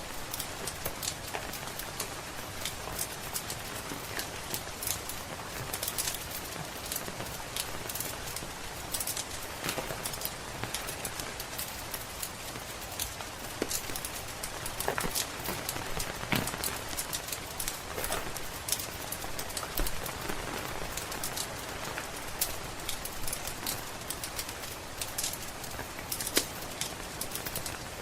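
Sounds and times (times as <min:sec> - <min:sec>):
steady rain: 0:00.0 - 0:28.0
wood fire crackling: 0:00.0 - 0:28.0.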